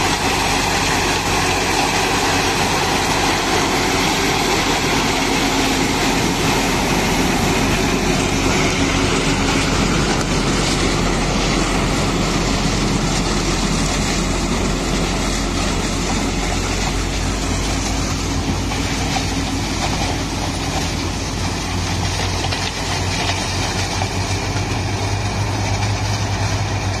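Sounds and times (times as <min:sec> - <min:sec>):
harvester diesel engine: 0:00.0 - 0:27.0.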